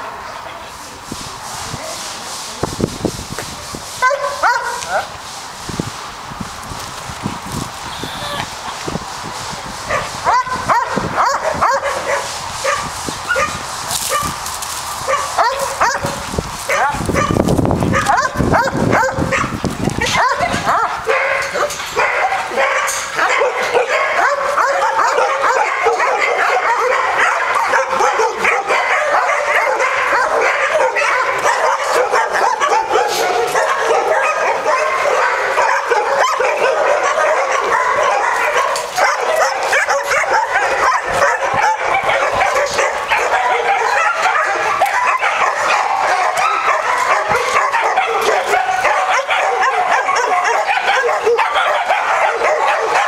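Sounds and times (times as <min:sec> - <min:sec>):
dogs barking and yelping: 0:04.0 - 0:05.1, 0:09.9 - 0:14.4, 0:15.0 - 0:53.0.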